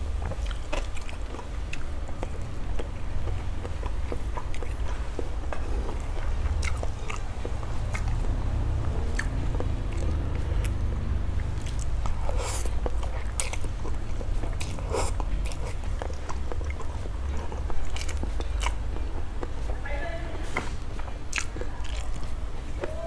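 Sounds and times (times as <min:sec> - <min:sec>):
chewing and slurping noodles: 0:00.0 - 0:19.8, 0:20.8 - 0:23.0
low hum: 0:00.0 - 0:19.9.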